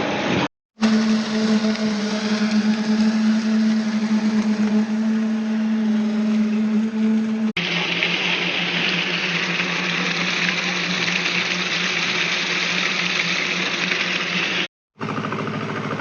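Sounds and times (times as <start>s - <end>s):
concrete pump running: 0.8s - 16.0s.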